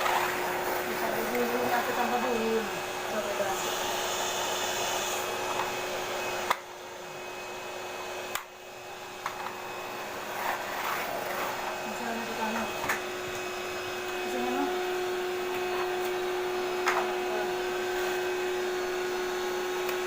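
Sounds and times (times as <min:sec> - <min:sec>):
vacuum cleaner motor humming: 0:00.0 - 0:20.0.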